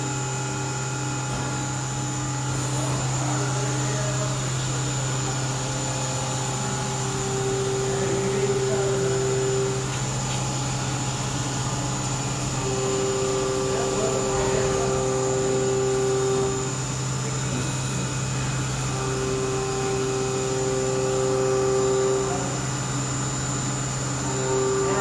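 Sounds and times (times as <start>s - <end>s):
lathe machine hum and whine: 0.0s - 25.0s
mid-pitched motor tone: 0.0s - 25.0s.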